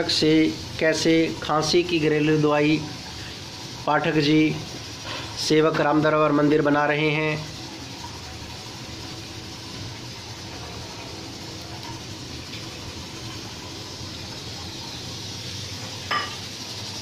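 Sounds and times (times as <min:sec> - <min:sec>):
gas stove burner hissing: 0:00.0 - 0:17.0.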